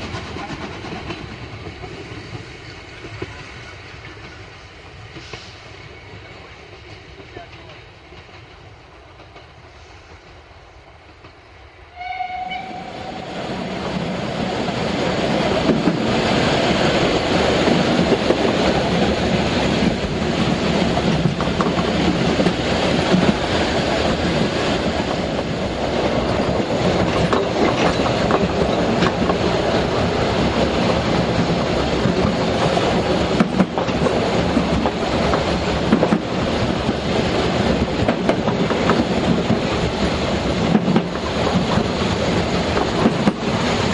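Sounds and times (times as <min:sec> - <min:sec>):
train wheels clattering on rails: 0:00.0 - 0:11.5, 0:13.2 - 0:43.9.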